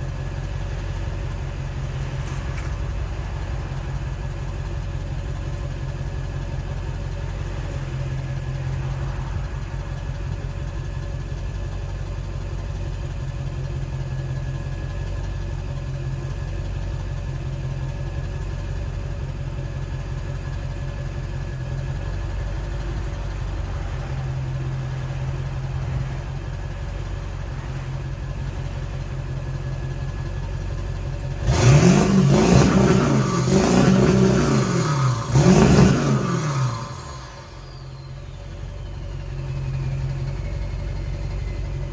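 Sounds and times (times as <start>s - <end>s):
diesel engine idling and revving: 0.0s - 41.9s.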